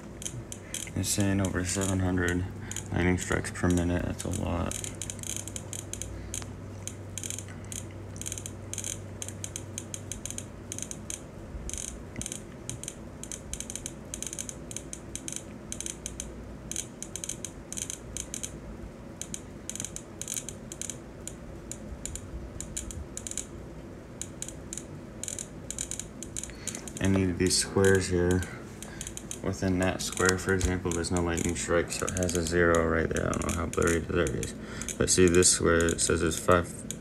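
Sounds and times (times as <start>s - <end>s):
faint low hum: 0.0s - 37.0s
rapid irregular alert ticking: 0.0s - 37.0s.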